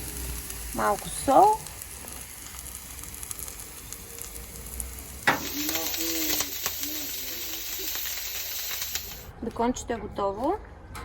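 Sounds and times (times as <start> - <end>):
bacon sizzling in a pan: 0.0 - 9.3.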